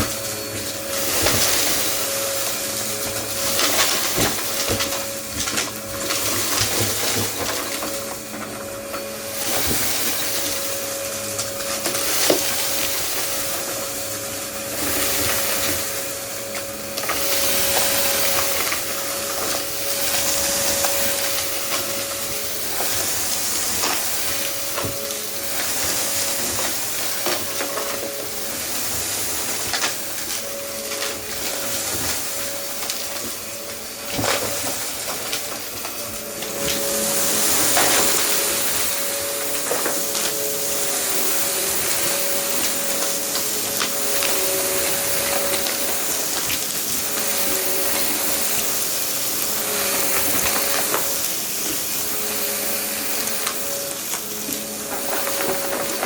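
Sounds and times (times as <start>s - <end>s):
debris rattling in vacuum: 0.0s - 56.0s
vacuum cleaner running: 0.0s - 56.0s.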